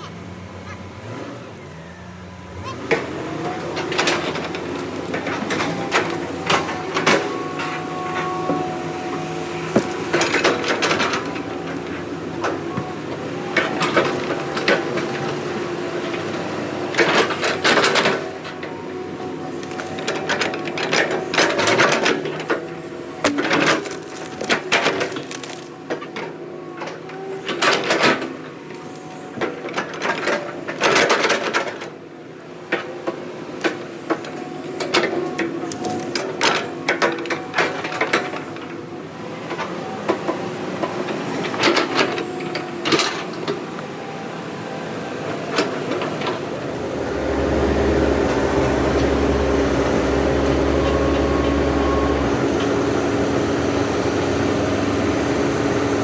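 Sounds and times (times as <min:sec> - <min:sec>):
diesel engine running: 0:00.0 - 0:31.5, 0:32.3 - 0:56.0.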